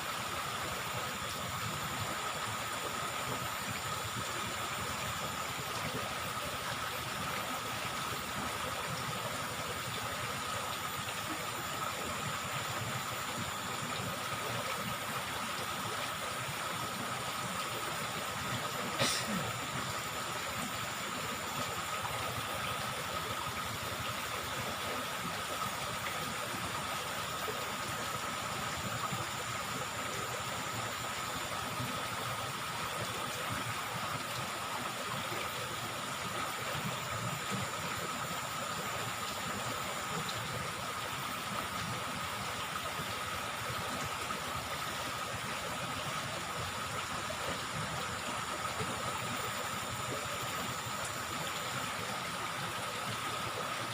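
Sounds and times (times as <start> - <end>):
river water flowing: 0.0 - 53.9.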